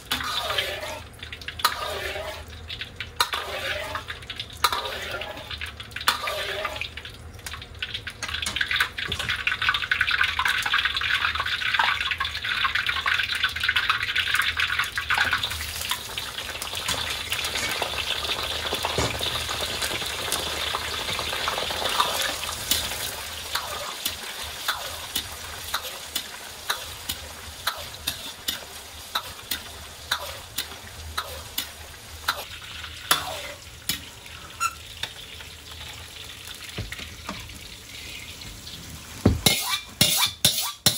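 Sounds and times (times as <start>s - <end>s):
food deep-frying in hot oil: 0.0s - 40.9s.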